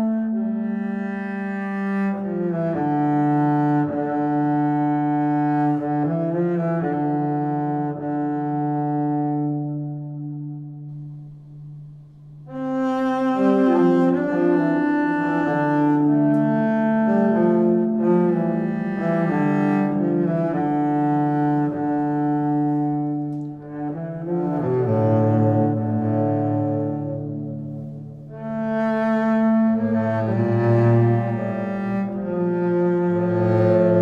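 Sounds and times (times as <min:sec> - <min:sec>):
slow music with long notes: 0:00.0 - 0:34.0.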